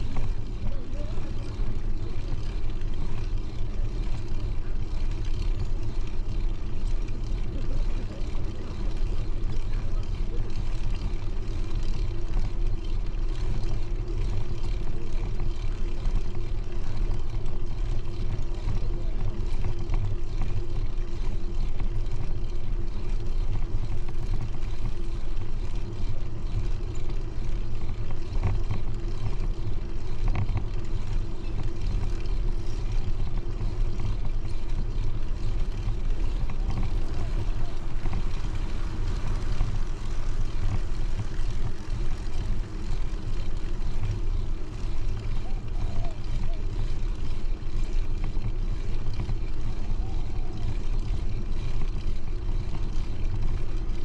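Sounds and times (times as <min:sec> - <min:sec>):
wind and road noise on microphone: 0:00.0 - 0:54.0.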